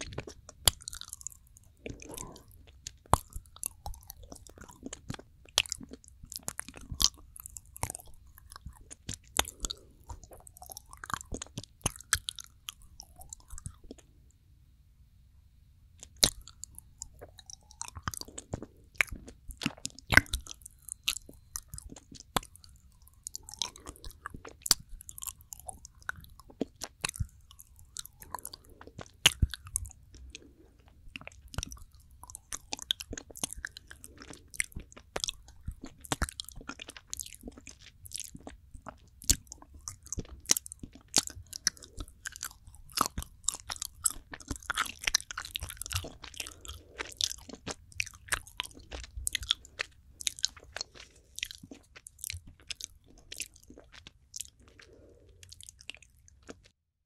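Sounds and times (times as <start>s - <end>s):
chewing mouth sounds: 0.0s - 14.1s, 16.0s - 56.8s.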